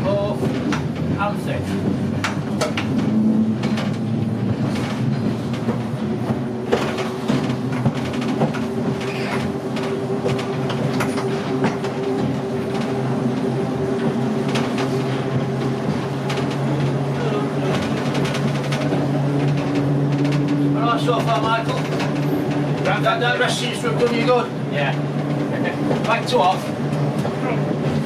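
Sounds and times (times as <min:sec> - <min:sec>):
running gear clicking over rails: 0:00.0 - 0:28.0
tram motor whine: 0:00.0 - 0:28.0.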